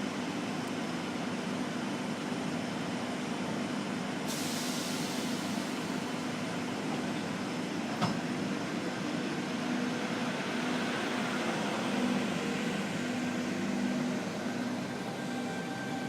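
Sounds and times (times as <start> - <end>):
electric train hum and hiss: 0.0 - 16.0.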